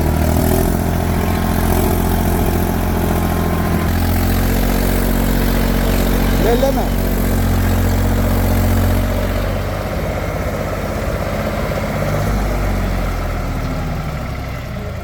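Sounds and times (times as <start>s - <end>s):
heavy diesel machinery engine: 0.0s - 15.0s.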